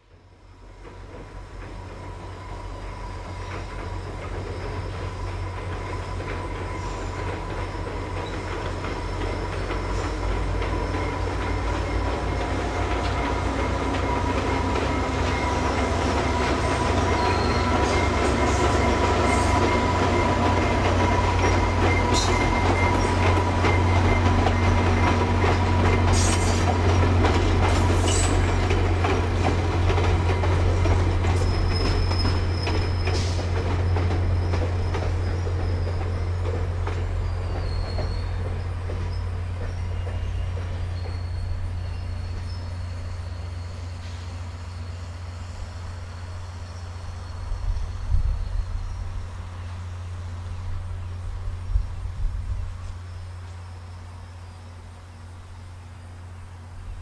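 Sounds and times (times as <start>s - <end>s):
diesel locomotive rumble: 0.0s - 57.0s
rail wheel clatter: 0.0s - 57.0s
wheel squeal: 2.5s - 49.0s.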